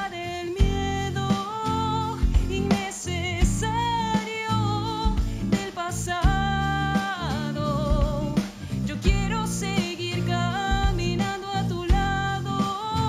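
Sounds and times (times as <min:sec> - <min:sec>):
guitar: 0:00.0 - 0:13.0
low beat: 0:00.0 - 0:13.0
woman singing a ballad: 0:00.0 - 0:13.0.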